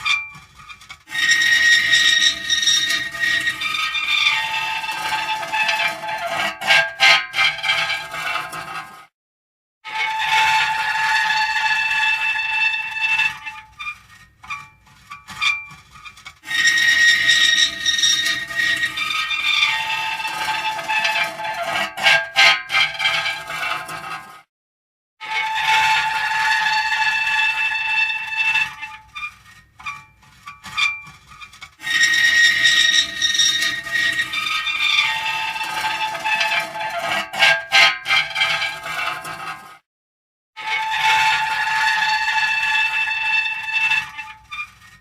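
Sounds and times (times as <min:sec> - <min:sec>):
metal creaking and squealing: 0:00.0 - 0:09.0, 0:09.9 - 0:24.4, 0:25.2 - 0:39.8, 0:40.6 - 0:45.0.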